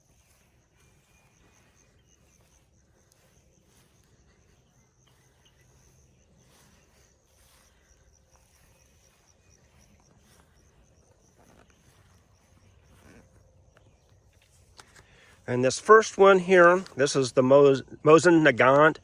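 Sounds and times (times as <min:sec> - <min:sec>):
faint insect chirping: 0:00.0 - 0:19.0.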